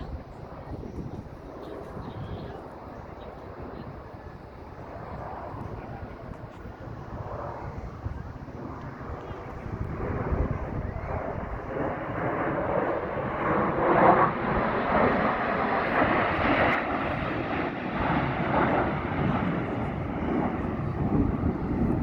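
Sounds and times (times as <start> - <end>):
airplane engine flying past: 0.0 - 22.0.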